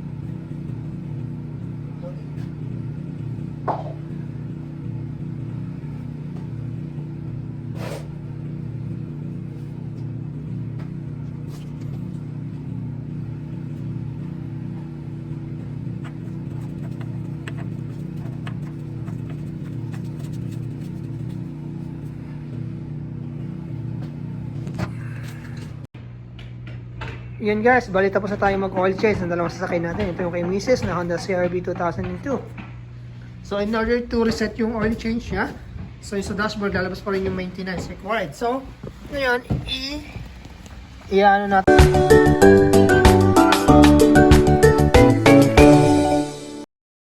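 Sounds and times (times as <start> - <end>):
car engine idling: 0.0 - 25.9, 27.4 - 41.7.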